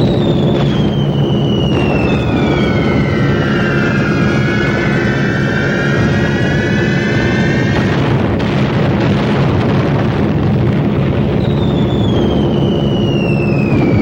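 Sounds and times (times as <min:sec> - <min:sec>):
falling bombs whistling: 0:00.0 - 0:14.0
piston aircraft engines droning: 0:00.0 - 0:14.0.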